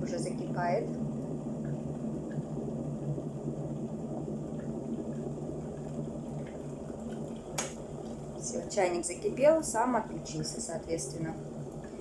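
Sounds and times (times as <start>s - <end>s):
electric kettle boiling: 0.0s - 12.0s.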